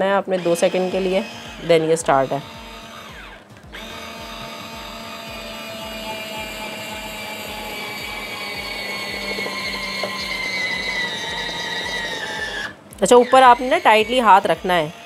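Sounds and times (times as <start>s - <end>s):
juicer motor whining: 0.0s - 15.0s.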